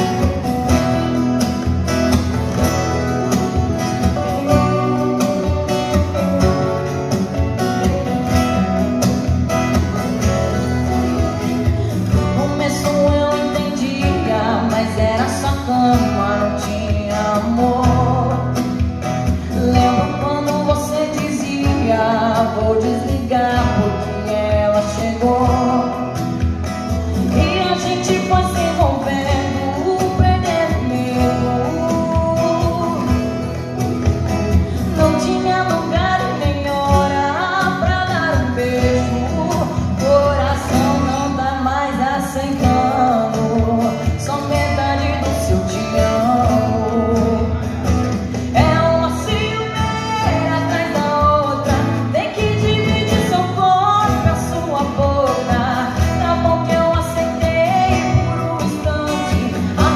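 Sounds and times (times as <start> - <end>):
acoustic guitar: 0.0 - 59.9
woman singing into microphone: 2.7 - 8.0, 10.6 - 59.9.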